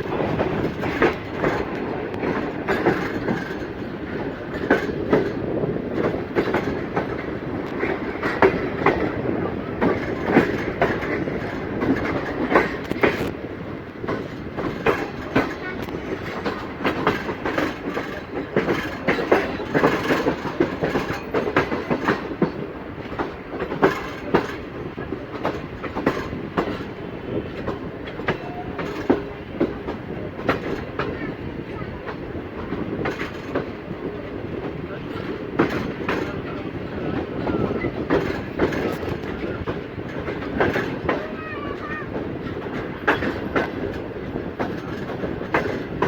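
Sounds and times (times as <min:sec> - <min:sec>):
train rumble: 0:00.0 - 0:46.0
train wheels clacking on rails: 0:00.0 - 0:46.0.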